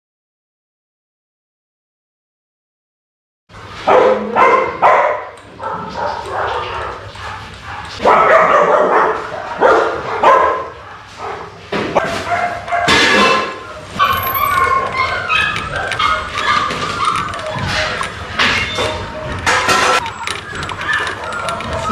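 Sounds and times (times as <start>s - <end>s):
dogs barking and yipping: 3.6s - 21.9s.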